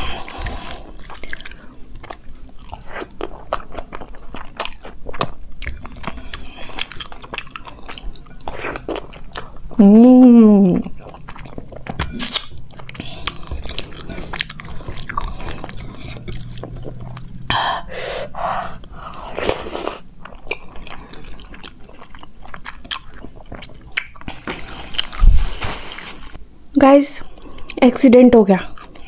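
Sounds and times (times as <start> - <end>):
person chewing food: 0.0 - 26.4, 27.2 - 27.8, 28.7 - 29.0.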